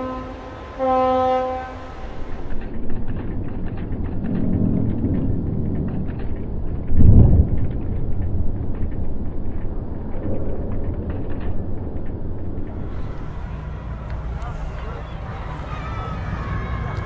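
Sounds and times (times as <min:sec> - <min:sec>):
low rumble: 0:01.7 - 0:17.0.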